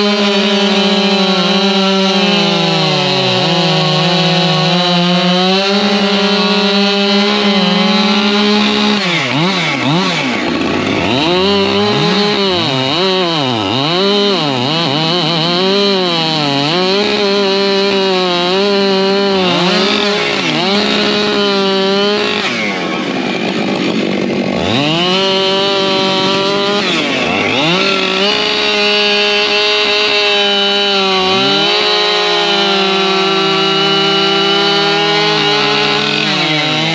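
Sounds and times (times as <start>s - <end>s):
chainsaw at full throttle: 0.0s - 36.9s
chainsaw bogging in a cut: 0.0s - 36.9s.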